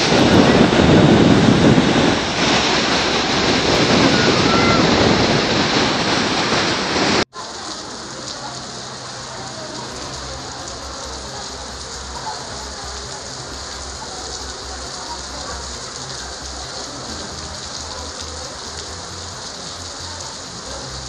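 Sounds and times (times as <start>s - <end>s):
heavy rain on a street: 0.0s - 21.0s.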